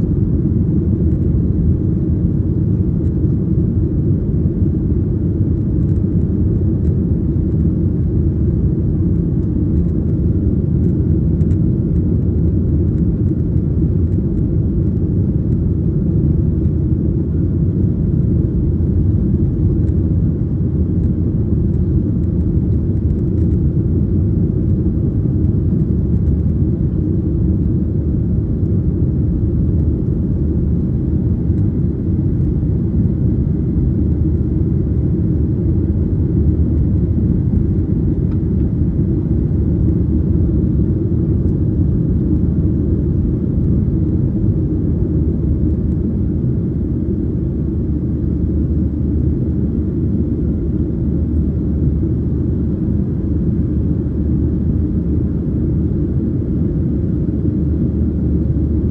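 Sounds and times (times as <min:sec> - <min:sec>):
airplane cabin engine noise: 0:00.0 - 0:58.9.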